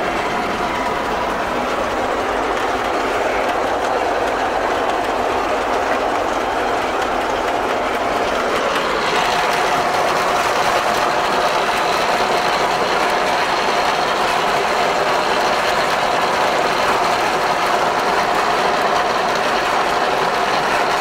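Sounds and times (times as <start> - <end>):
mower engine drone: 0.0 - 21.0
steady whine: 0.0 - 21.0.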